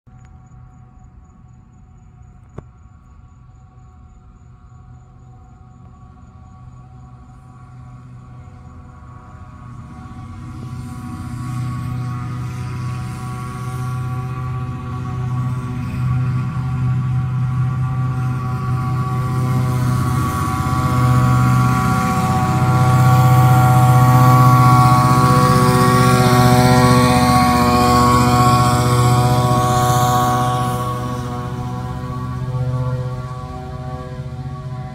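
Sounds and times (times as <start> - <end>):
fogging truck droning hum: 0.2 - 34.9.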